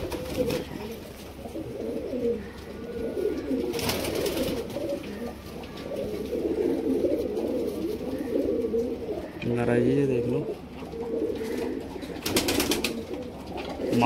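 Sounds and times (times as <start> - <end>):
rustle of feathers: 0.0 - 9.3, 10.9 - 14.0
pigeons cooing: 0.0 - 14.0.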